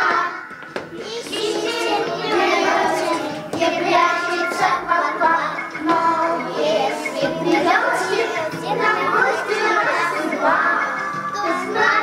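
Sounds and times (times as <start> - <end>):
backing music: 0.0 - 12.0
children singing: 0.0 - 12.0.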